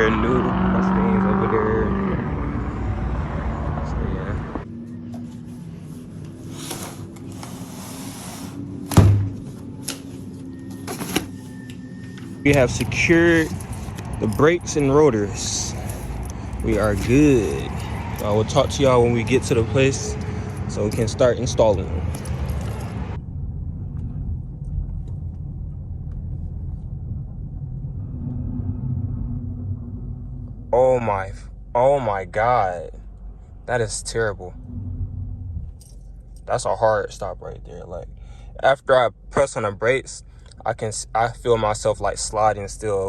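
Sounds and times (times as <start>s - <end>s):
car engine and road noise: 0.0s - 43.0s
steady low hum: 0.0s - 43.0s.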